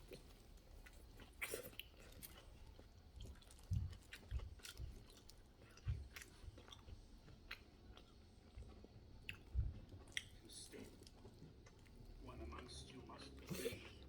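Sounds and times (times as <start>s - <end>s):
person chewing food: 0.1s - 12.0s.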